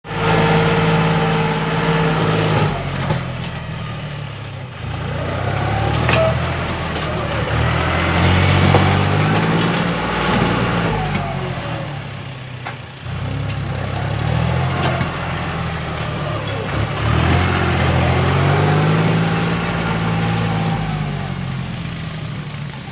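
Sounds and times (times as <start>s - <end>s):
tractor engine working: 0.0s - 22.9s.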